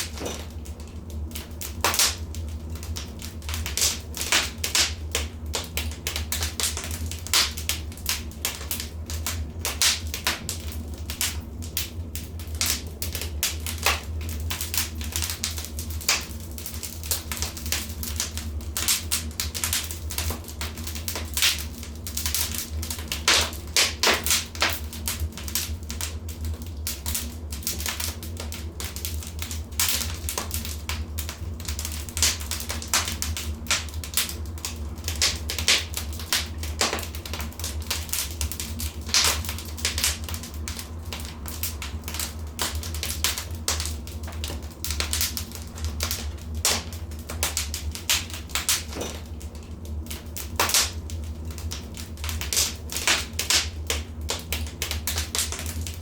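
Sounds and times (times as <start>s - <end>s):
low fire rumble: 0.0s - 56.0s
wood fire crackling and popping: 0.0s - 56.0s.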